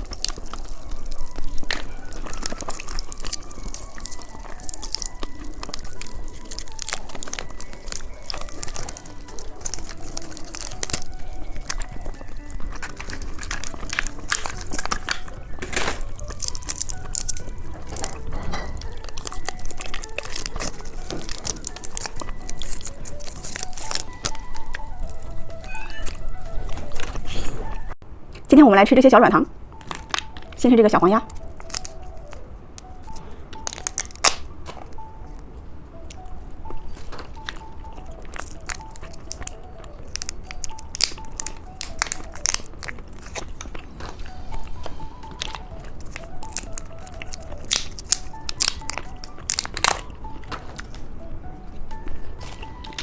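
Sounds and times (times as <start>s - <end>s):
candy crunching: 0.0s - 28.5s, 29.7s - 53.0s
popping candy crackles: 0.0s - 28.5s, 29.7s - 53.0s
faint background music: 0.0s - 53.0s.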